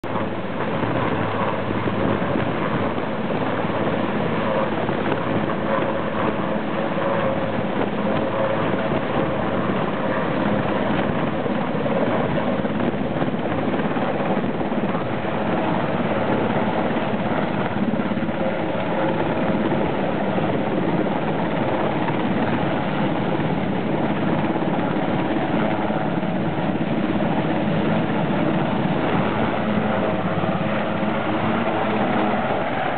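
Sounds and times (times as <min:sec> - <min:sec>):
helicopter engines and rotor: 0:00.0 - 0:32.9.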